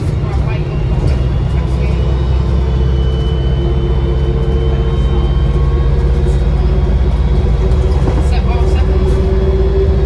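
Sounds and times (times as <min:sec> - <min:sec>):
bus engine drone: 0:00.0 - 0:10.0.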